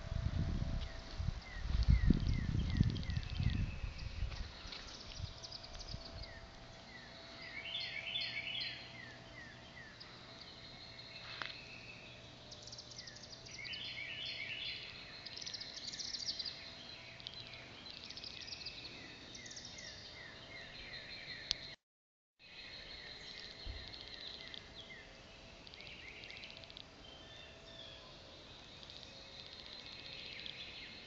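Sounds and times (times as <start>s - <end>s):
faint steady hum: 0.0s - 21.8s, 22.4s - 31.0s
wild birds singing: 0.7s - 21.8s, 22.4s - 31.0s.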